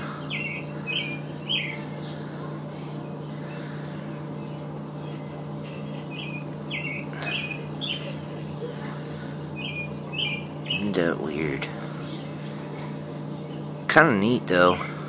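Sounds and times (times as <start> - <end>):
songbird chirping: 0.0 - 14.9
steady low hum: 0.0 - 15.0.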